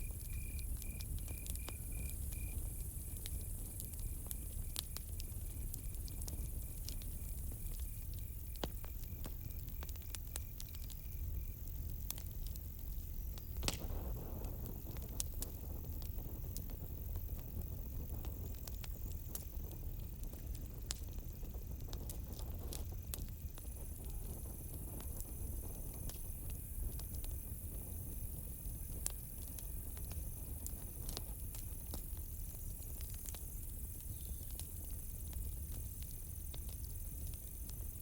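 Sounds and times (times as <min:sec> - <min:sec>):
crickets trilling: 0:00.0 - 0:15.0, 0:15.6 - 0:38.0
campfire crackling and popping: 0:00.0 - 0:38.0.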